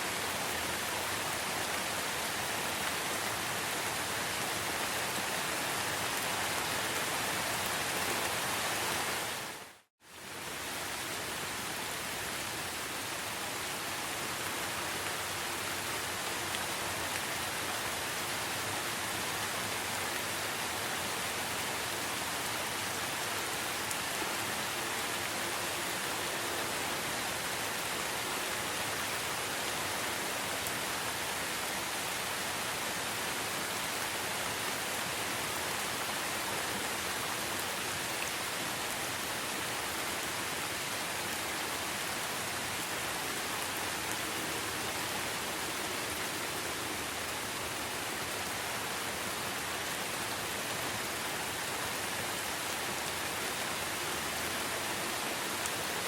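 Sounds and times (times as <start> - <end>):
rain falling in a forest: 0.0 - 56.0.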